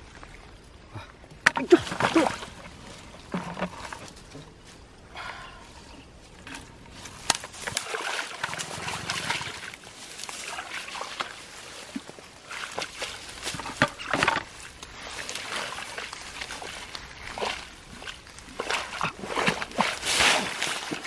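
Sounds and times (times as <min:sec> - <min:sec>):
water sloshing and splashing: 0:00.0 - 0:21.0.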